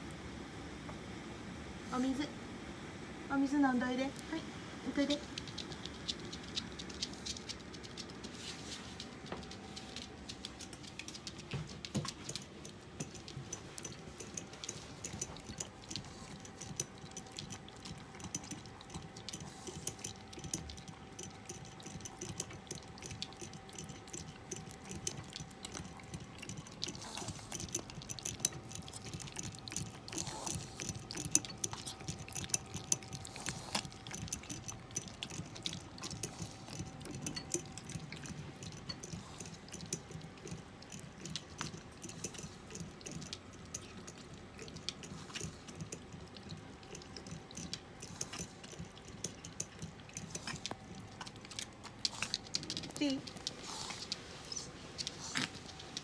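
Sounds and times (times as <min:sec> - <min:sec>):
dog lapping water: 0:09.5 - 0:56.0.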